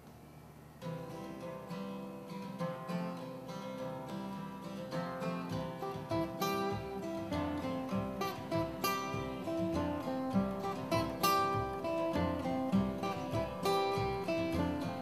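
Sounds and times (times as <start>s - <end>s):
acoustic guitar picking: 0.8s - 15.0s.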